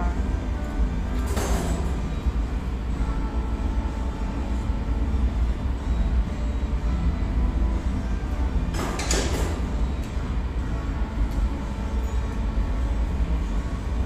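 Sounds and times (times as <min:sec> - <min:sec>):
furnace roar: 0:00.0 - 0:14.0.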